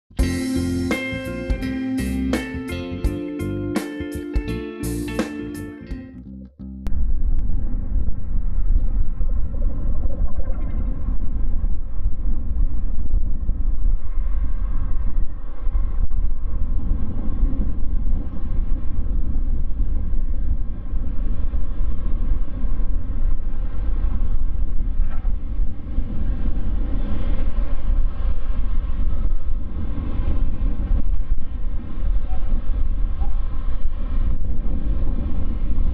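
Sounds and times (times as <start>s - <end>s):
jet engines low rumble: 6.5s - 35.9s
faint jet engine whine: 6.9s - 35.9s.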